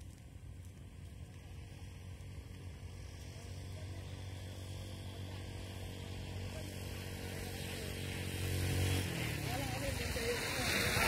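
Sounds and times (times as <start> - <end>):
motorcycle engine running: 1.1 - 11.0.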